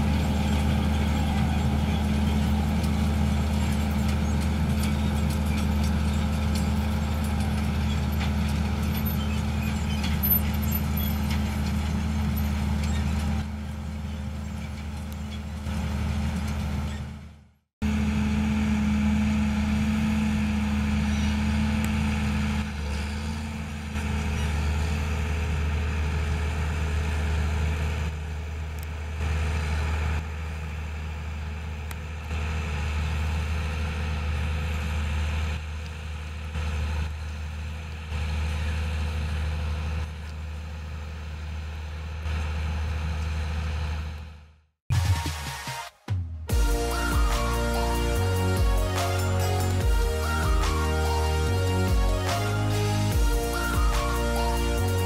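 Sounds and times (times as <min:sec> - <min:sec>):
tractor diesel engine running: 0:00.0 - 0:45.5, 0:46.5 - 0:55.0.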